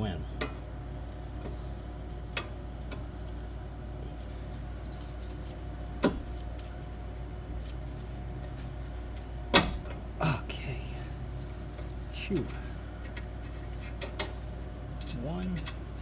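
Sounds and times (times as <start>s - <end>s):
shop fans humming: 0.0s - 16.0s.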